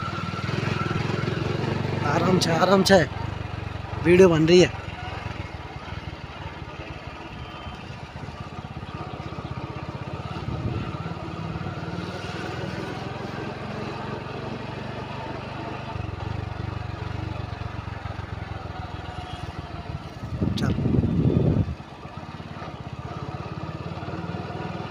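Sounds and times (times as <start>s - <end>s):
motorcycle engine running: 0.0s - 24.9s
road and wind noise: 0.0s - 24.9s.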